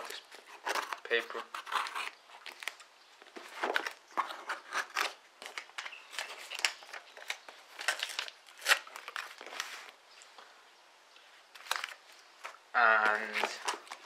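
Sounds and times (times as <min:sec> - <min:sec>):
paper crinkling and rustling: 0:00.0 - 0:10.0, 0:11.5 - 0:14.0.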